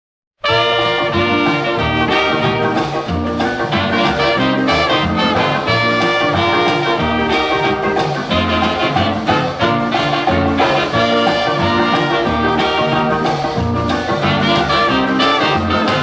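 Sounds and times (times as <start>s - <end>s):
brass band with walking bass: 0.4s - 16.0s.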